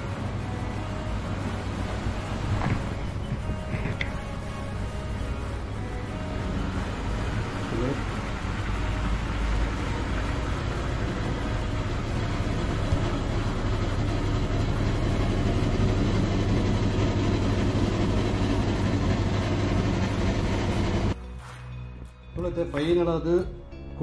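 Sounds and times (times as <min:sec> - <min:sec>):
washing machine spinning: 0:00.0 - 0:21.2.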